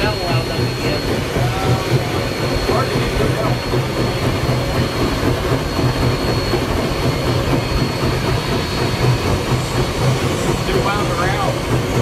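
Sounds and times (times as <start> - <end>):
steam locomotive running rumble: 0.0 - 12.0.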